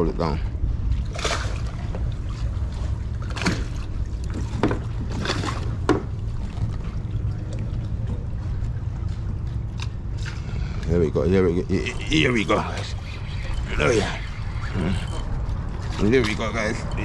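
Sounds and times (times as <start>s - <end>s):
steady low rumble: 0.0s - 17.0s
water lapping against kayak hull: 0.5s - 10.9s, 11.7s - 17.0s.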